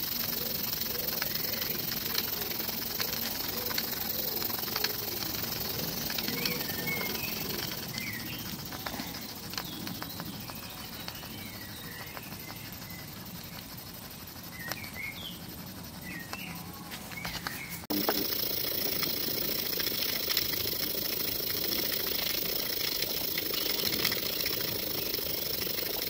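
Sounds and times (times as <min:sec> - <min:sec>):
model steam engine ticking: 0:00.0 - 0:16.8, 0:17.4 - 0:26.0
birds chirping: 0:00.0 - 0:26.0.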